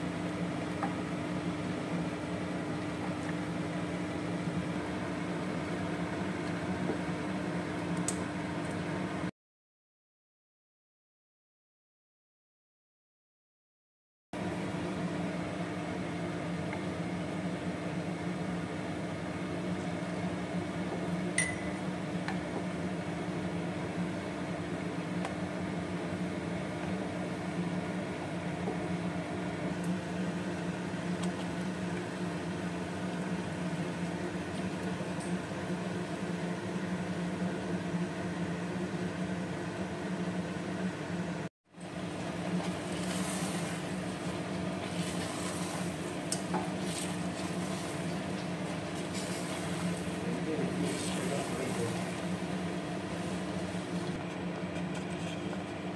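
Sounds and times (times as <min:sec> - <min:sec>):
appliance mechanical hum: 0:00.0 - 0:09.3, 0:14.4 - 0:55.9.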